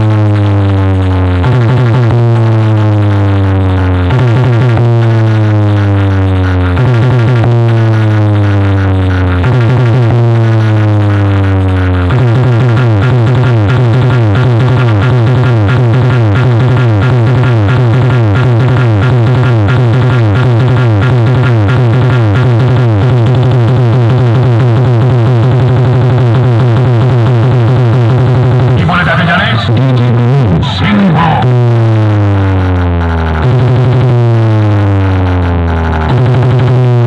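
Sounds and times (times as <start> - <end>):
loud electronic music: 0.0 - 37.0.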